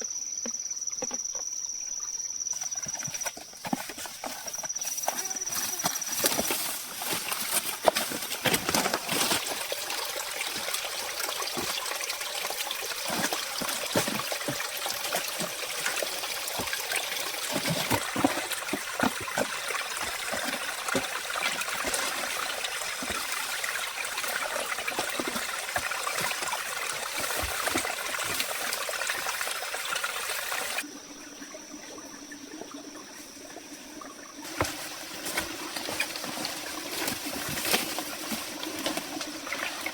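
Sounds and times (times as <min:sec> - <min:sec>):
water running: 0:02.6 - 0:30.9, 0:32.4 - 0:39.9.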